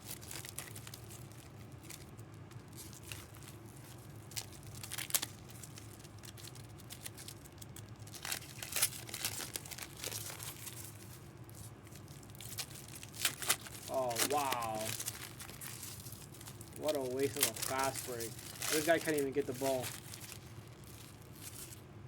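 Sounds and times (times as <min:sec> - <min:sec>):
faint low hum: 0:00.0 - 0:22.0
wrappers crinkling and tearing: 0:00.0 - 0:22.0.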